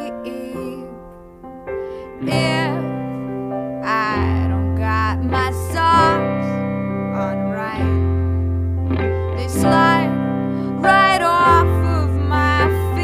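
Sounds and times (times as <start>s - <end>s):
woman singing: 0.0s - 1.3s, 2.0s - 8.4s, 9.2s - 13.0s.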